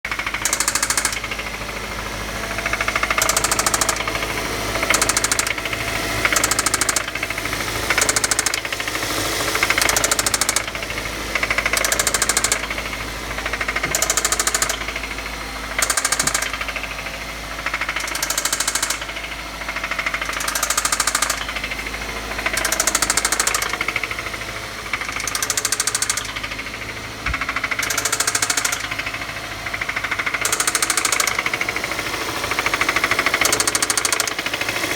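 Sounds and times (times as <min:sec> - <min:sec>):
engine rod knock: 0:00.1 - 0:08.8, 0:09.6 - 0:34.5.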